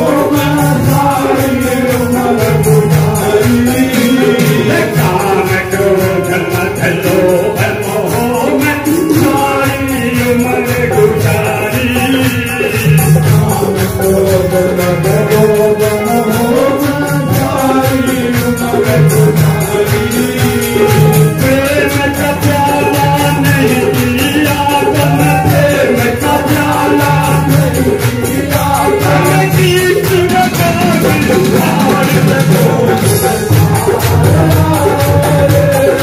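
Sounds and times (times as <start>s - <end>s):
harmonium: 0.0s - 36.0s
man singing into microphone: 0.0s - 36.0s
percussion beat: 0.0s - 36.0s.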